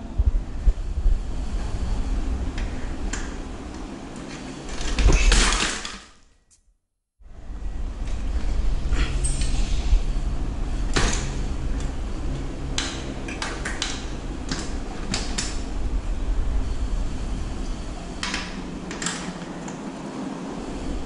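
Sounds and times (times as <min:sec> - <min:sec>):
steady low hum: 0:00.0 - 0:05.8, 0:07.2 - 0:21.0.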